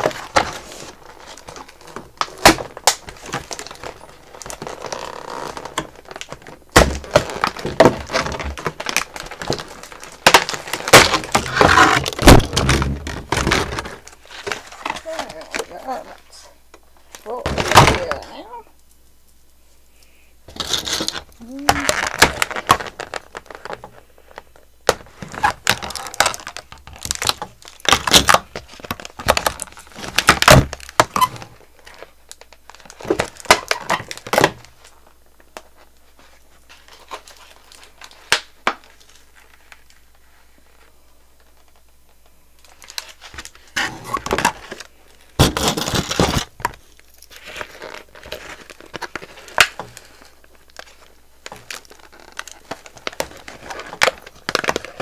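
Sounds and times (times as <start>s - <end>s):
packaging crinkling and tearing: 0.0s - 16.4s, 20.5s - 55.0s.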